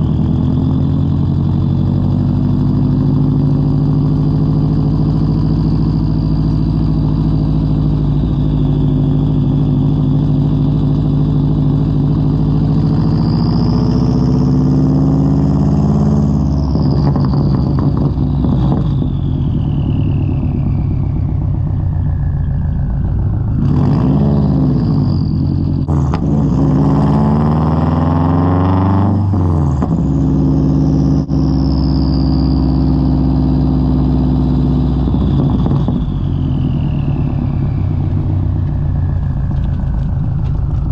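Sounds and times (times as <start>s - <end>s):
car engine revving: 0.0s - 40.9s
high whine: 0.0s - 40.9s.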